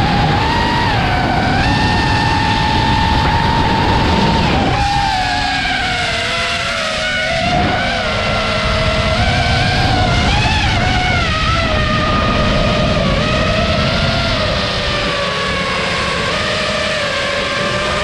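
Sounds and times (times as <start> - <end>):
drone motors whining: 0.0 - 18.0
wind noise: 0.0 - 18.0.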